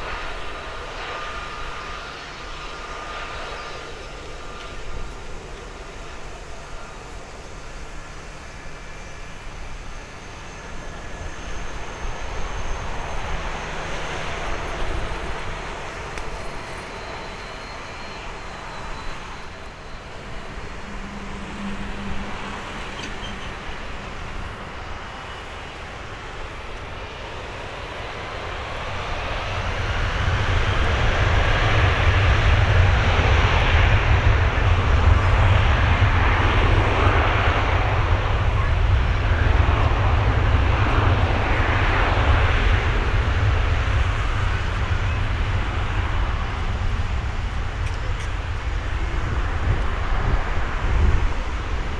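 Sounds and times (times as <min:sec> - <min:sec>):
jet engines spooling up: 0:00.0 - 0:51.9.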